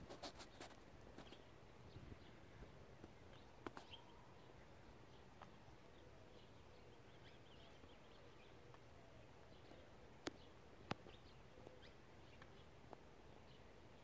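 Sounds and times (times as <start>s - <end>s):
faint bird chirps: 0.2s - 14.0s.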